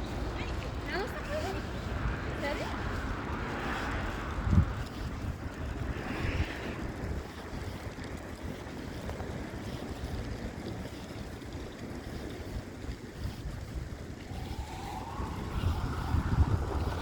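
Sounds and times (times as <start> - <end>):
vehicle approaching: 0.0 - 10.0, 10.6 - 17.0
low street rumble: 0.0 - 17.0
wind buffeting microphone: 0.0 - 17.0.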